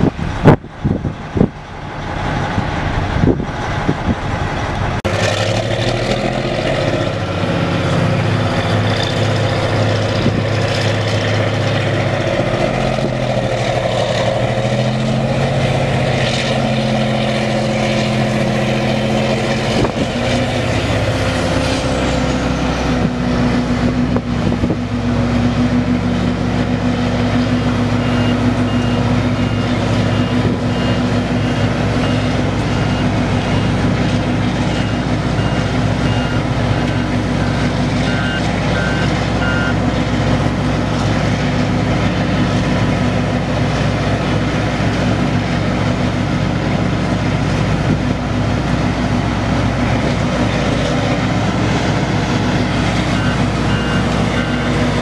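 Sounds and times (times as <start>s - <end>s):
diesel engine running loud: 0.0s - 55.0s.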